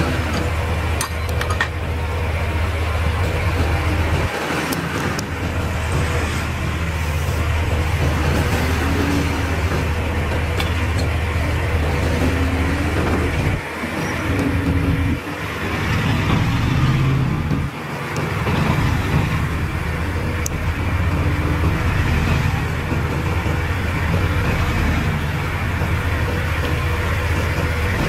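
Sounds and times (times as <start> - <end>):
heavy diesel engine revving: 0.0 - 28.0.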